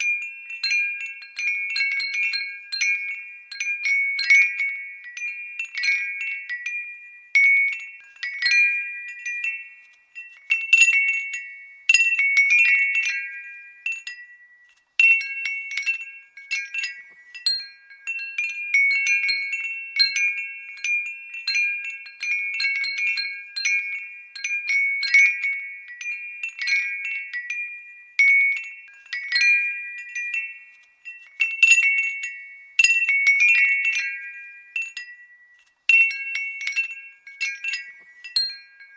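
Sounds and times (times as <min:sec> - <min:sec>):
glass wind bell tinkling: 0:00.0 - 0:38.9.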